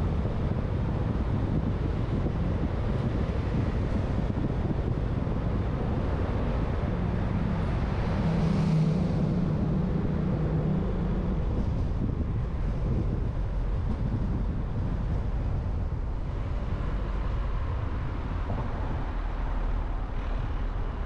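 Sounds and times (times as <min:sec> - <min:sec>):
road and wind noise: 0:00.0 - 0:21.0
vehicle engine hum: 0:00.0 - 0:21.0.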